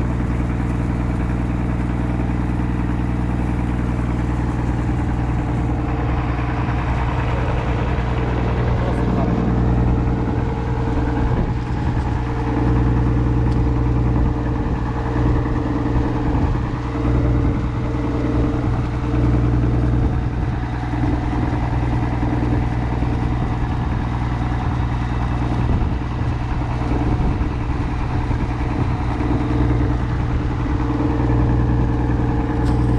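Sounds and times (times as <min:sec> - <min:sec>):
motorboat engine humming: 0:00.0 - 0:32.9.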